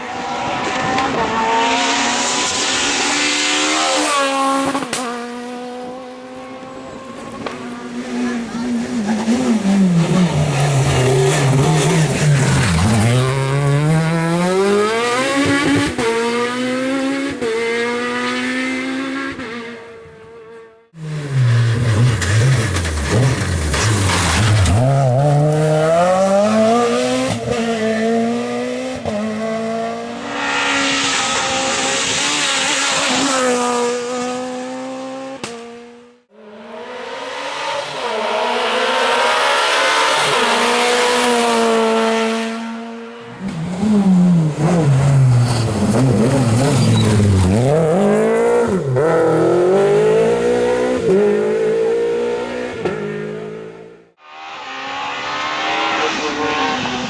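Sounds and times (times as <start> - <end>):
rally car engine accelerating: 0.0 - 57.0.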